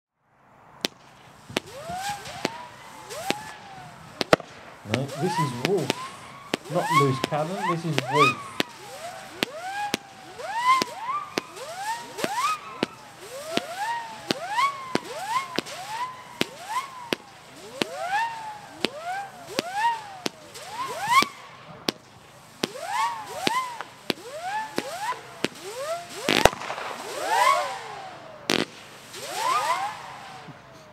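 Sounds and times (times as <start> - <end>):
firework cracks: 0.5 - 30.9
firework pops: 0.8 - 27.9, 28.5 - 30.8
howling firework whistles: 1.0 - 30.9.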